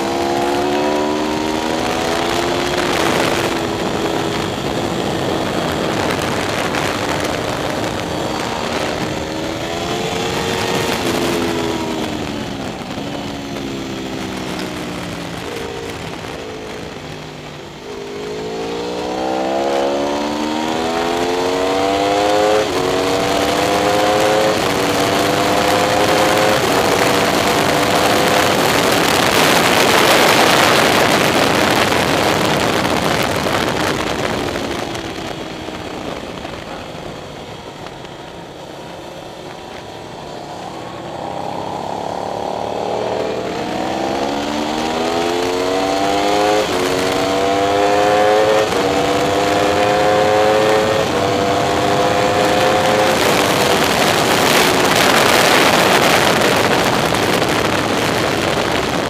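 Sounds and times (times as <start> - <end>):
loud wind rush: 0.0 - 59.0
motorcycle engine accelerating: 0.0 - 59.0.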